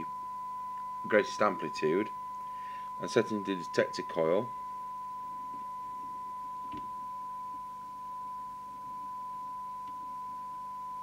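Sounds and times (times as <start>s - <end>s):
steady test tone: 0.0s - 11.0s.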